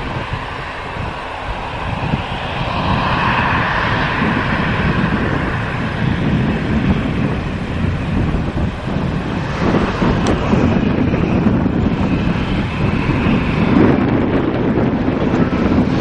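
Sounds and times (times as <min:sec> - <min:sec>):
jet engines whining and roaring: 0:00.0 - 0:16.0
wind rumbling across microphone: 0:00.0 - 0:16.0.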